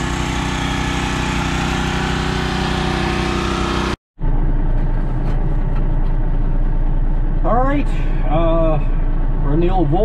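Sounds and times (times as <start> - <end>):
diesel engine low hum: 0.0 - 10.0
engine running steadily: 0.0 - 10.0.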